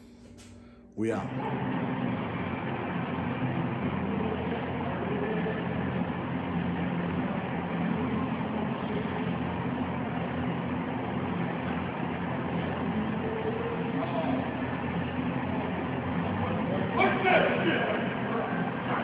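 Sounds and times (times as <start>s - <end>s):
large room background rumble: 0.0s - 19.0s.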